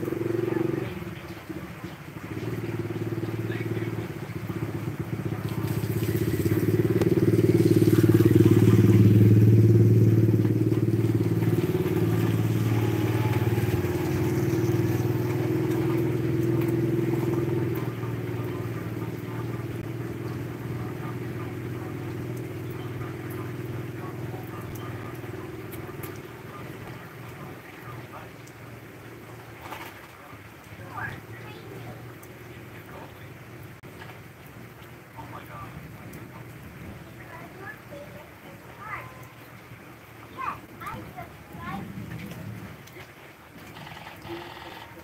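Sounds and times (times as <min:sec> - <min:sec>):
vehicle engine droning: 0:00.0 - 0:37.8.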